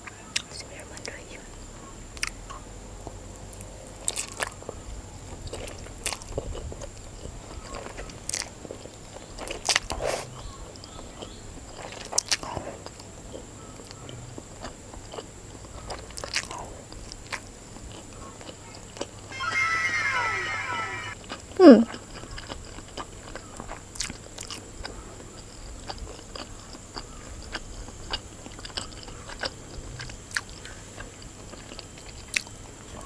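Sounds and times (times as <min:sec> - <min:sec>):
chewing crunchy noodles: 0:02.2 - 0:19.1, 0:22.4 - 0:33.0.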